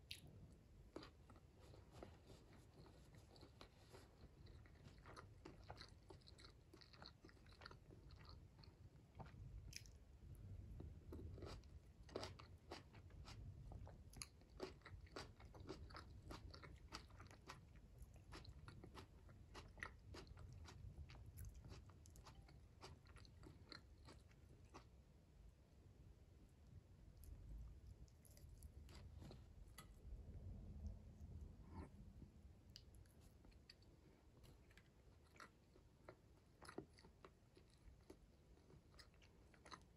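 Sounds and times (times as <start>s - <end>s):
person chewing tomato: 0.0s - 25.2s, 26.6s - 39.9s.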